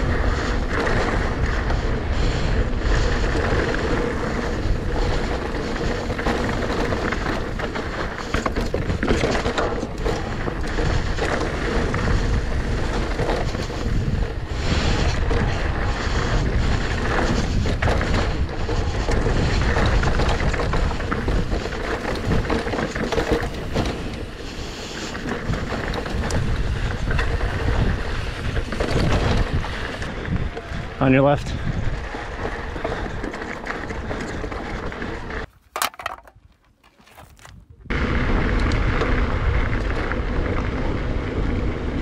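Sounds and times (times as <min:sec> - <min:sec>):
wind buffeting microphone: 0:00.0 - 0:35.5
bike tyres rolling over dirt: 0:00.0 - 0:42.0
bike knocks and rattles: 0:00.1 - 0:37.7.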